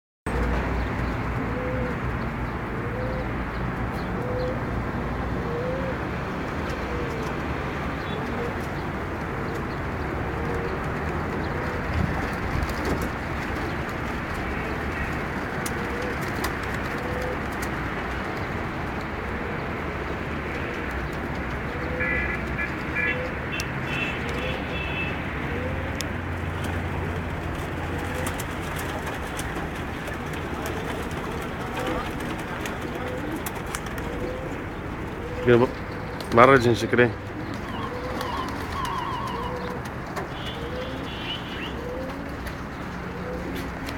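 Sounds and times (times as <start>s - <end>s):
pigeons cooing: 1.3s - 43.9s.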